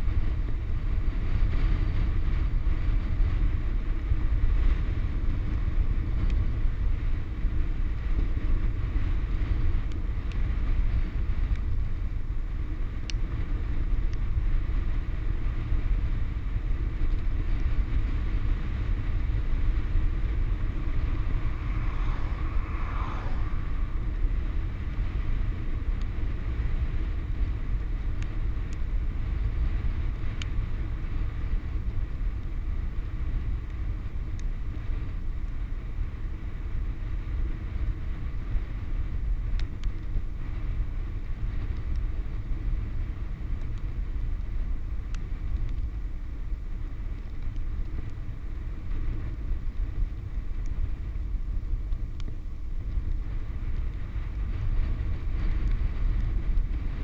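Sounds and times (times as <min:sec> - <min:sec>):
bicycle tyre hum on road: 0:00.0 - 0:57.0
wind buffeting microphone: 0:00.0 - 0:57.0.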